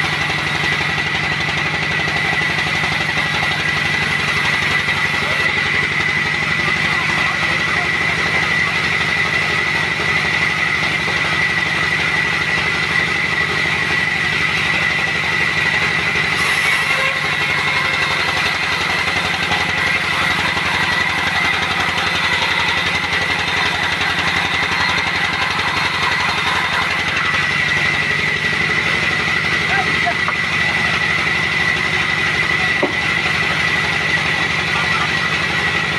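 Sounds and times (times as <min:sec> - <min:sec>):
sawmill machinery low pulsing: 0:00.0 - 0:35.9.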